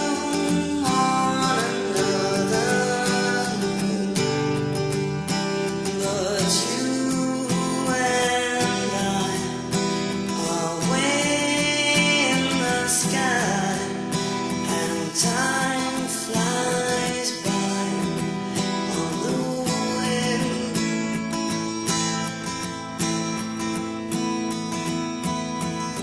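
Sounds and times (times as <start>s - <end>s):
person singing: 0.0s - 21.8s
strummed acoustic guitar: 0.0s - 26.0s.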